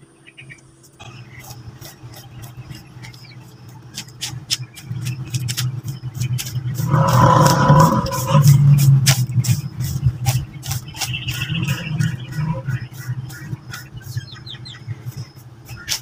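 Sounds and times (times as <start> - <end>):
sharp ticks: 0.8 - 16.0.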